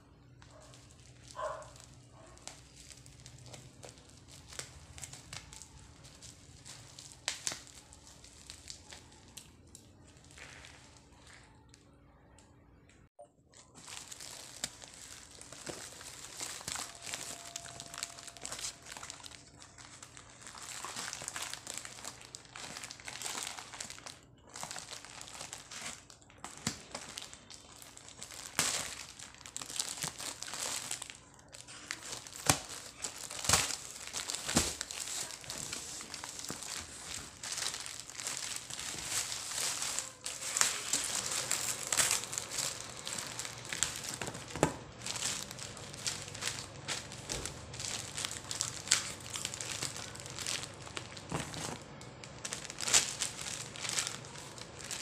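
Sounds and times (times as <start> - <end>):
plastic wrap crinkling: 0.1 - 11.8, 13.5 - 55.0.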